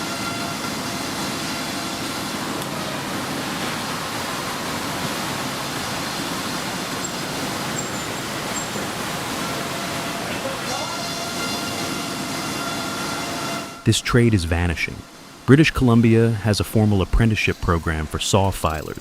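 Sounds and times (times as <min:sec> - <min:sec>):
sawmill machinery hiss and rumble: 0:00.0 - 0:19.0.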